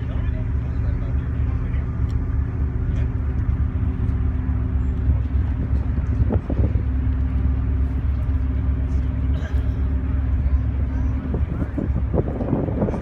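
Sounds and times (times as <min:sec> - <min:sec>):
low rumble with mechanical hum: 0:00.0 - 0:13.0.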